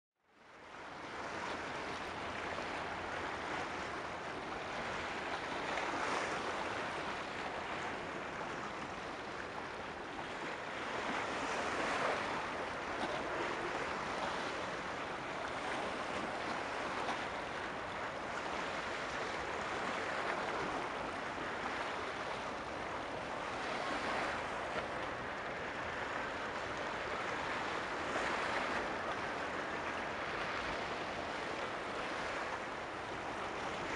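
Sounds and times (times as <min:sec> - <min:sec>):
sea waves on rocky shore: 0:00.7 - 0:33.9.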